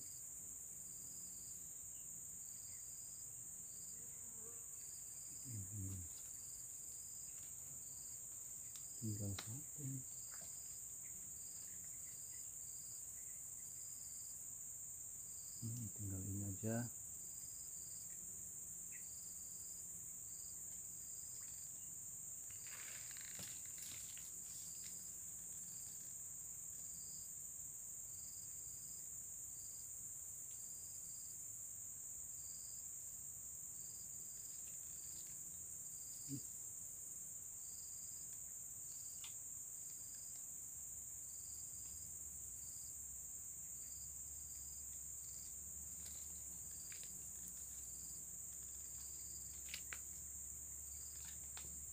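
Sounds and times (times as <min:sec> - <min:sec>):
insect chirping in short pulses: 0:00.0 - 0:30.0, 0:30.6 - 0:51.9
insect high-pitched drone: 0:00.0 - 0:51.9.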